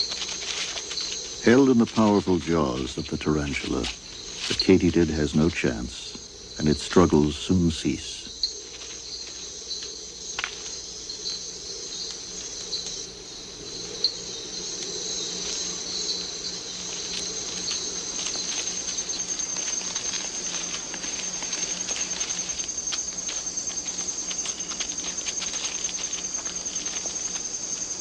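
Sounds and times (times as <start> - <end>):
insects trilling in chorus: 0.0 - 28.0
pulsing insect trill: 0.0 - 28.0.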